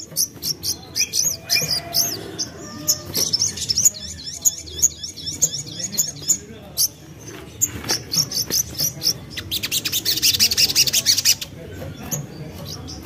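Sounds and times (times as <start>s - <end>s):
bird chirping and twittering: 0.0s - 13.0s.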